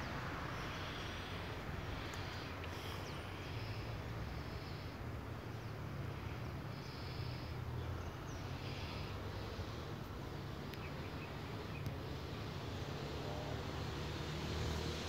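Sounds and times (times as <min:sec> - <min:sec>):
insects buzzing: 0:00.0 - 0:15.0
steady low stream rumble: 0:00.0 - 0:15.0.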